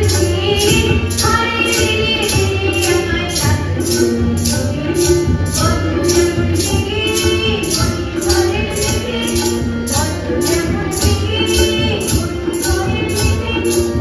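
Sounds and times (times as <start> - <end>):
harmonium: 0.0 - 14.0
jingling percussion: 0.0 - 14.0
tabla: 0.0 - 14.0.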